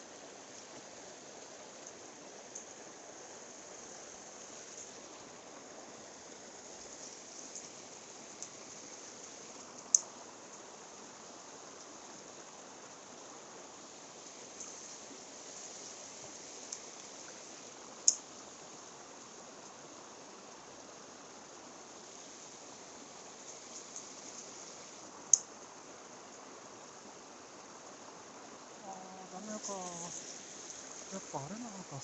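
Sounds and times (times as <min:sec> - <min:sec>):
stream flowing: 0:00.0 - 0:32.0.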